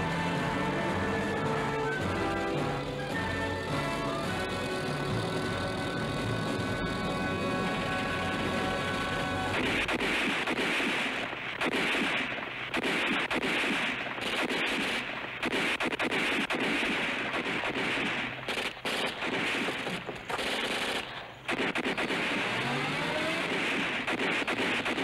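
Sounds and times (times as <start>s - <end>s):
automatic gunfire bursts: 0.0s - 25.0s.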